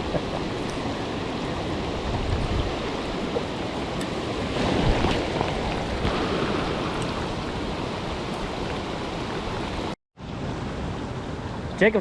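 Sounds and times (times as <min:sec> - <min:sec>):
falling rain: 0:00.0 - 0:11.7
wind rumbling on microphone: 0:00.0 - 0:11.8
water rushing over spillway: 0:00.0 - 0:12.0.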